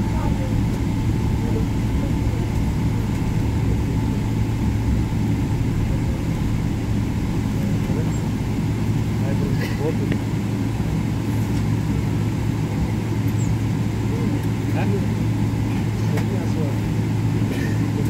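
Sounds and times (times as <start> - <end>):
airliner cabin rumble: 0.0 - 18.0
low engine hum: 0.0 - 18.0.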